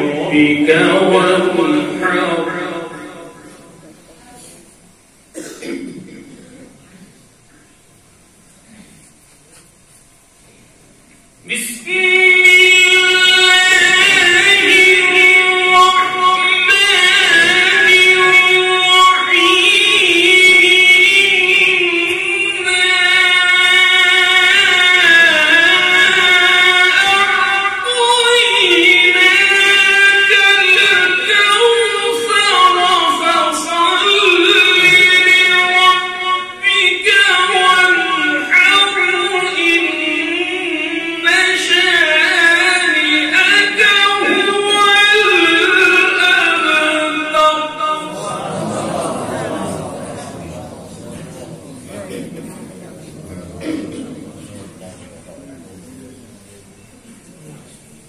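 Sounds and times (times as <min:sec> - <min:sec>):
man reciting melodically: 0:00.0 - 0:07.8, 0:11.3 - 0:58.0.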